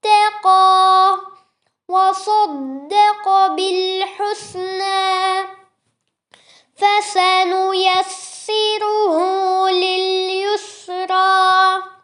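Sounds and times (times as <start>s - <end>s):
young person chanting recitation: 0.0s - 5.7s, 6.8s - 12.0s.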